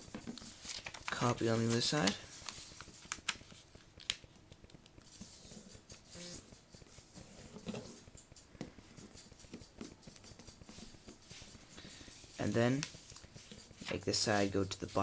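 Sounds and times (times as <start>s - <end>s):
paper rustling and scraping: 0.0s - 4.2s, 5.0s - 15.0s.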